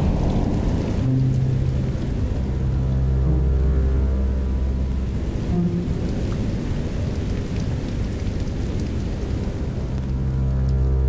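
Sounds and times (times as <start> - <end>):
low rumbling: 0.0 - 11.0.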